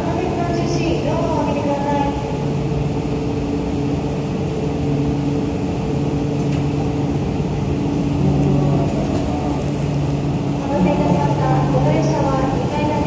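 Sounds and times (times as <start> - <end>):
train electrical hum: 0.0 - 13.0.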